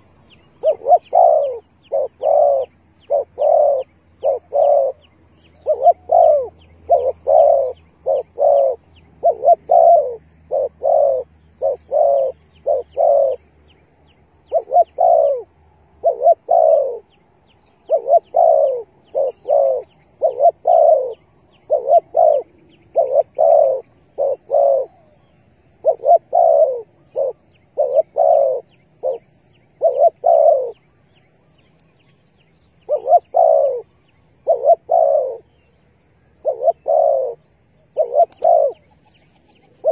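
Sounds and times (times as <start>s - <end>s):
dove cooing: 0.0s - 13.6s, 14.4s - 17.2s, 17.8s - 30.9s, 32.8s - 39.9s
faint rapid bird chirping: 0.0s - 39.9s.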